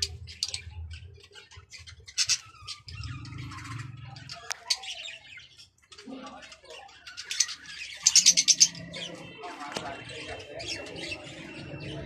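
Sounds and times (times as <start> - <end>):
parrots chirping: 0.0 - 12.0.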